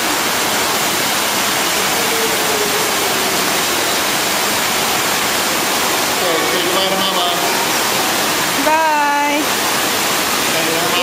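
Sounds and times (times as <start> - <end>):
swimming pool hall rushing noise: 0.0 - 11.0.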